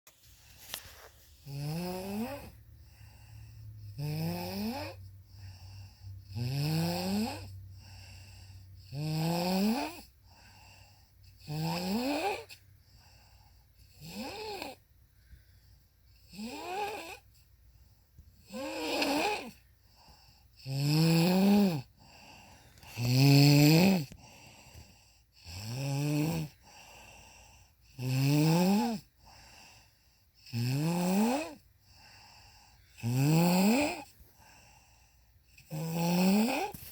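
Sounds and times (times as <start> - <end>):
woman snoring: 1.4 - 13.2, 13.9 - 14.8, 16.2 - 17.3, 18.4 - 36.9.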